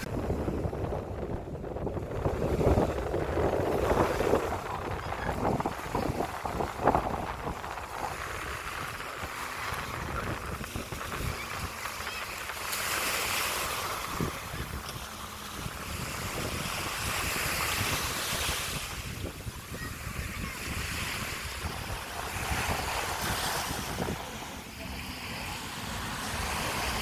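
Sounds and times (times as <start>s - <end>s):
sea waves breaking: 0.0s - 27.0s
wind buffeting microphone: 0.0s - 27.0s.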